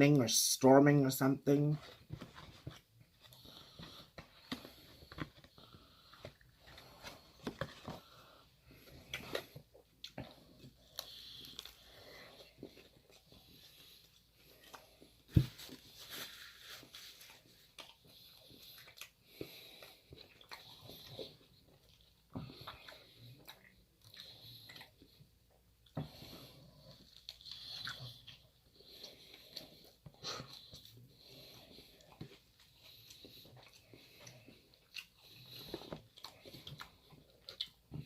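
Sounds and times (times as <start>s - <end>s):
soft chewing and biting: 1.8s - 38.0s.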